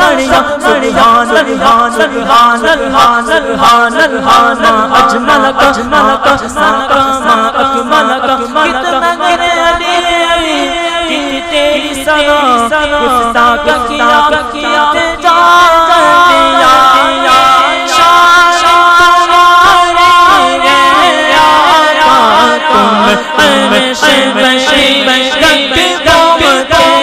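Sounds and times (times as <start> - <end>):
male voices singing devotional song: 0.0 - 27.0.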